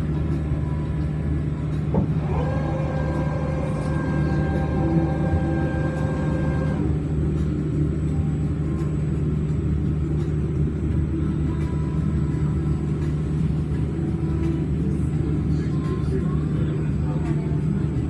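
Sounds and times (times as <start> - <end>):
submarine motors humming: 0.0 - 18.0.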